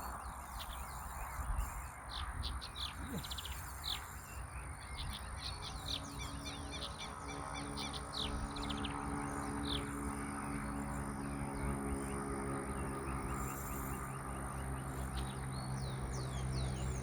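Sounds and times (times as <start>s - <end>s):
low hum of held tones: 0.0s - 17.0s
small birds chirping: 0.0s - 17.0s.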